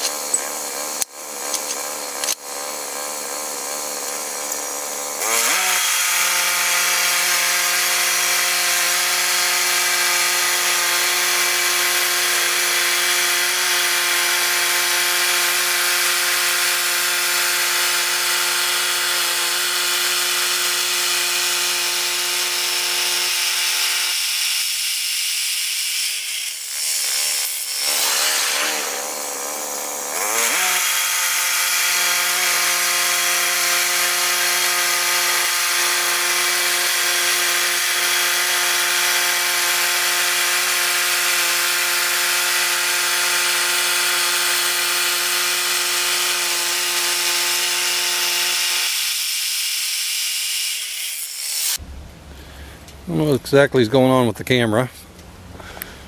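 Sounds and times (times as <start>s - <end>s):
band sawmill cutting log: 0.0s - 54.3s.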